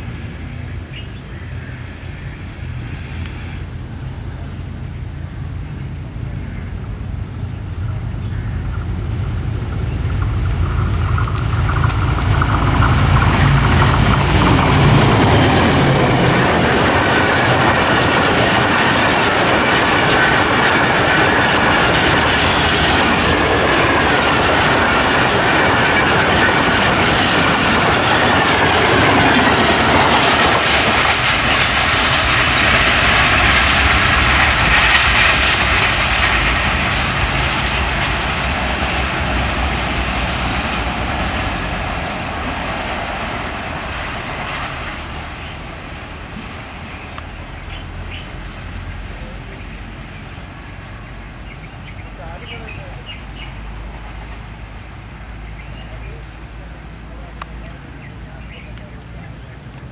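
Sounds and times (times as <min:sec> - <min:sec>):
train wheels rushing over rails: 0:01.6 - 0:59.9.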